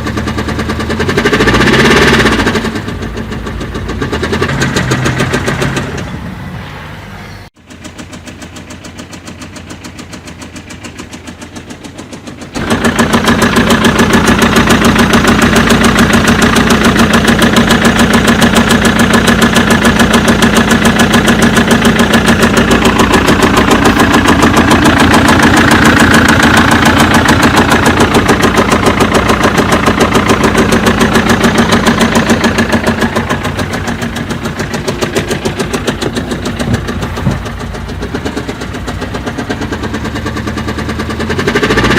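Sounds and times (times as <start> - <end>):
rhythmic engine knocking: 0.0 - 6.1, 7.6 - 41.9
diesel engine running: 0.0 - 41.9.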